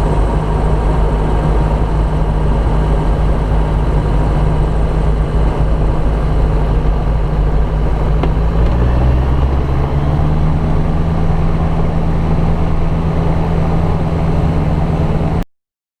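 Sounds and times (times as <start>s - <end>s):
light aircraft piston engine: 0.0s - 15.4s.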